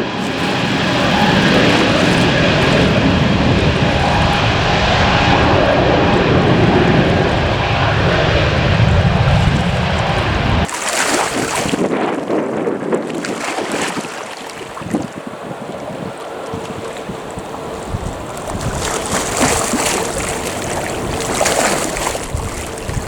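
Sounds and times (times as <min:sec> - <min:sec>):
jet engine roar: 0:00.0 - 0:23.0
wind buffeting microphone: 0:00.0 - 0:23.0.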